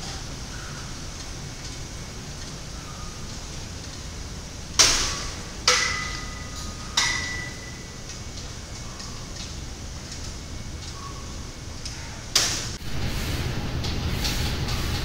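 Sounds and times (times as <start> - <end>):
gym background noise: 0.0 - 15.0.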